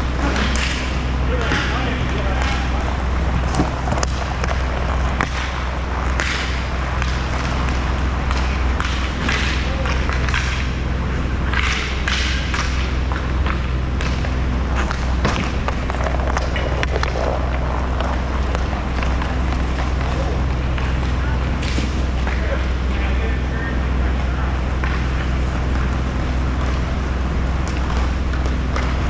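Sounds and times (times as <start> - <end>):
hockey sticks and puck clacking: 0.0 - 29.0
steady low hum: 0.0 - 29.0.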